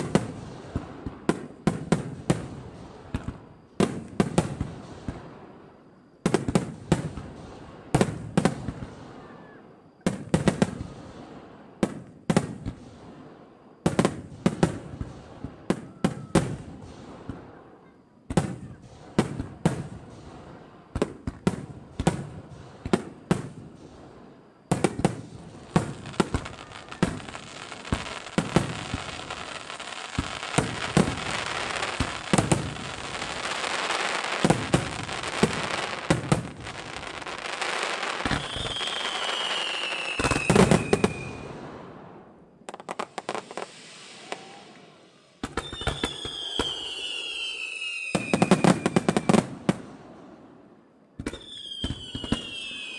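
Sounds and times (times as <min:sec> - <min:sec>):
fireworks bangs: 0:00.0 - 0:05.6, 0:06.2 - 0:52.9
fireworks crackling hiss: 0:00.0 - 0:52.9.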